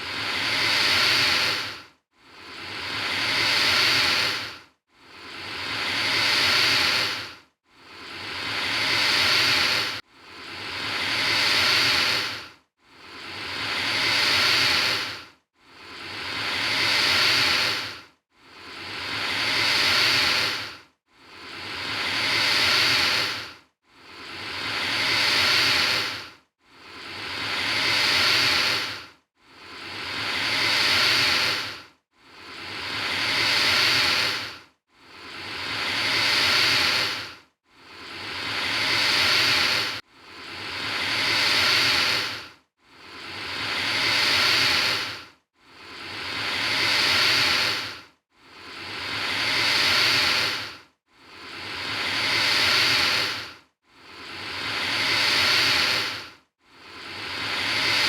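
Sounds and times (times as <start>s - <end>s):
alligator hissing: 0.1s - 1.8s, 2.6s - 4.5s, 5.2s - 7.3s, 8.0s - 12.4s, 13.1s - 15.2s, 15.8s - 18.0s, 18.7s - 26.2s, 27.0s - 29.0s, 29.6s - 31.8s, 32.4s - 34.6s, 35.2s - 37.3s, 37.9s - 42.4s, 43.1s - 45.2s, 45.8s - 48.0s, 48.7s - 53.5s, 54.2s - 56.2s, 57.1s - 58.0s.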